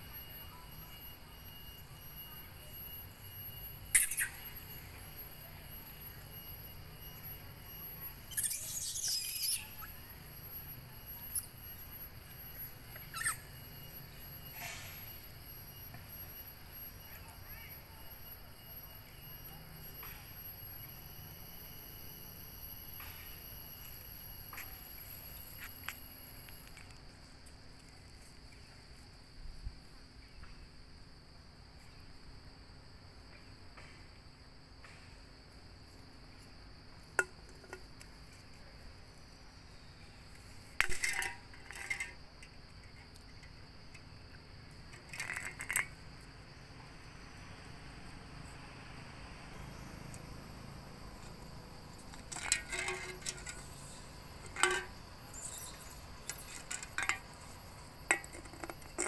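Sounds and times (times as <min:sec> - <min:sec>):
high-pitched insect drone: 0:00.0 - 0:27.2, 0:35.6 - 0:59.0.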